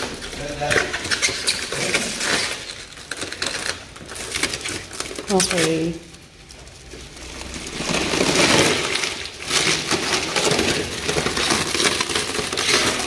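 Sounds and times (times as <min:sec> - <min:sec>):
plastic wrap crackling and tearing: 0:00.0 - 0:13.0.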